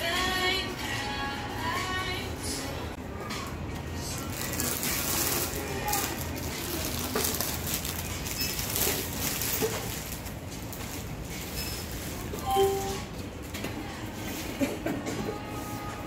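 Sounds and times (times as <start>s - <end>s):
noisy murmur: 0.0s - 16.0s.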